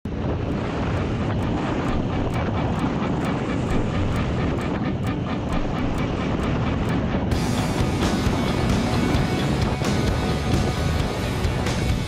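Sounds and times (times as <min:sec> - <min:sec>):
dirt bike engine running: 0:00.1 - 0:12.0
wind rushing over microphone: 0:00.1 - 0:12.0.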